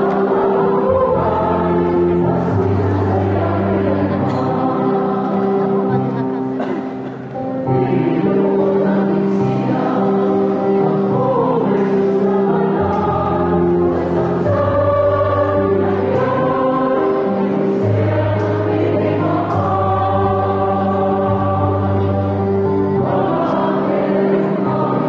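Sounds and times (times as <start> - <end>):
church choir singing: 0.0 - 25.0.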